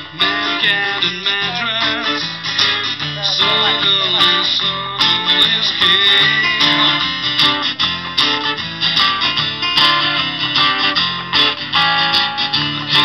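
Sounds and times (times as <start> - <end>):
live rock band playing: 0.0 - 13.0
strummed guitars: 0.0 - 13.0.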